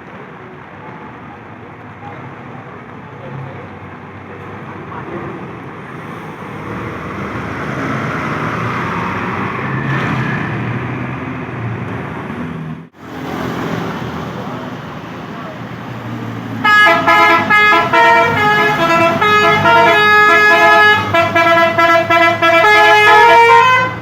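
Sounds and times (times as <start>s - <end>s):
road traffic: 0.0s - 24.0s
heavy vehicle passing: 3.2s - 24.0s.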